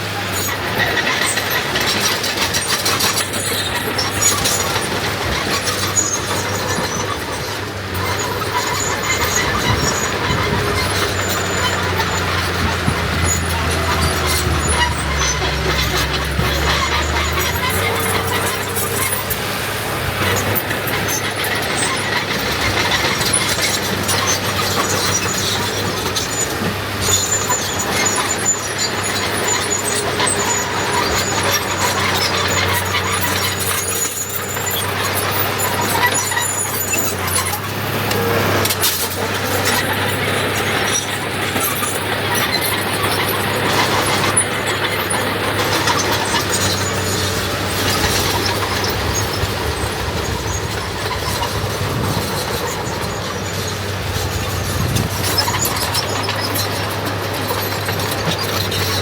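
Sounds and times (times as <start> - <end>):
diesel heavy machinery din: 0.0 - 59.0
machinery clanking: 0.0 - 59.0.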